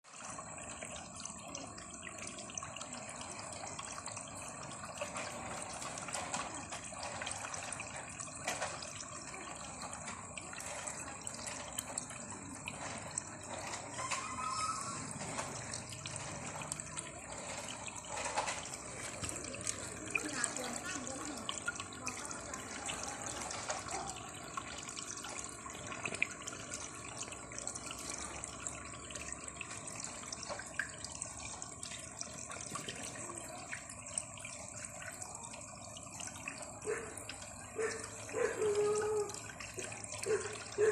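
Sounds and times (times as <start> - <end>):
fountain water splashing: 0.0 - 40.9
water drips: 0.0 - 40.9.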